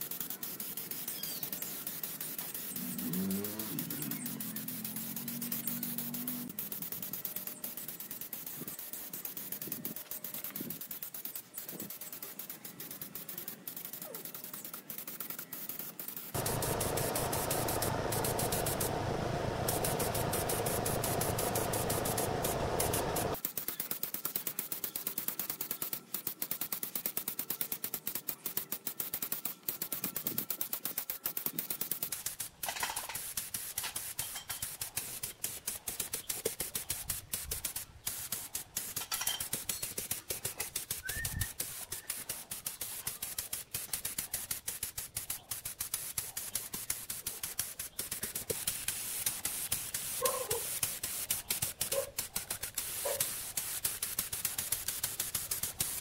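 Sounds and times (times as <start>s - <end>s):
paint spray gun hissing: 0.0s - 23.5s, 25.2s - 56.0s.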